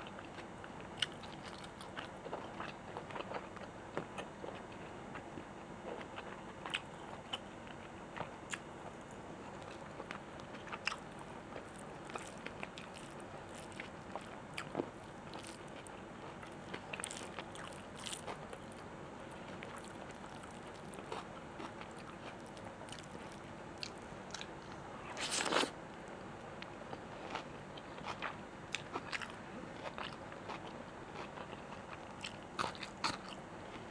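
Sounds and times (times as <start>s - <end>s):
chewing and crunching: 0.0s - 8.6s, 9.4s - 25.7s, 26.9s - 33.9s.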